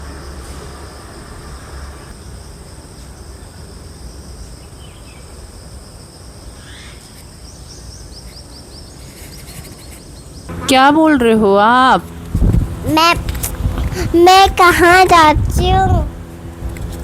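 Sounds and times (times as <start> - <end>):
insects droning: 0.0 - 16.7.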